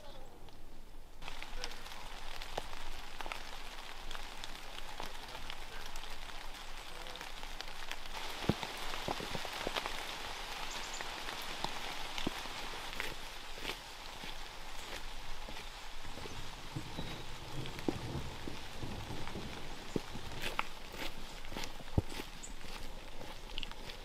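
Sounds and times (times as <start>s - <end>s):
rain drops striking: 0.0s - 24.0s.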